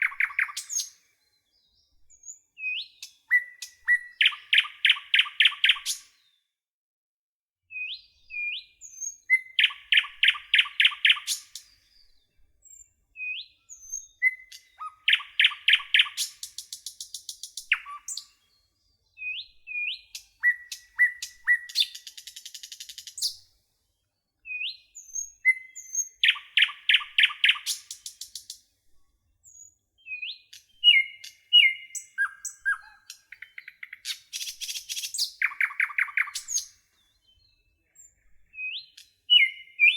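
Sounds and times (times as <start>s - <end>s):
nightingale singing: 0.0s - 6.1s, 7.7s - 23.5s, 24.4s - 28.6s, 29.5s - 39.9s.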